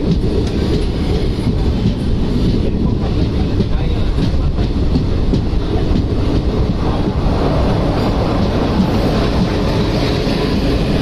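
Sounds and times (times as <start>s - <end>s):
train rumble heard on board: 0.0s - 11.0s.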